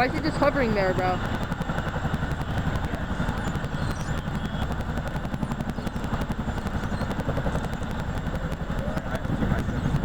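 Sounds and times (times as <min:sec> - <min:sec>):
helicopter rotor chop: 0:00.0 - 0:10.0
turbine engines running: 0:00.0 - 0:10.0.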